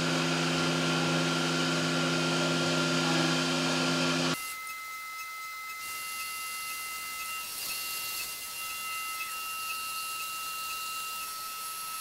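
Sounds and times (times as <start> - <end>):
high-pitched machine whine: 0.0 - 12.0
low machine cutting noise: 0.0 - 12.0.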